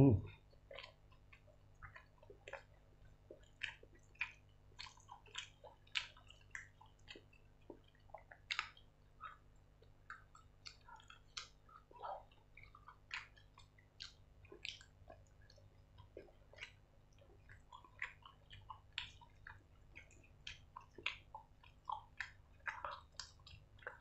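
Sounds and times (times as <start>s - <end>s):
wet chewing smacks: 0.3s - 24.0s.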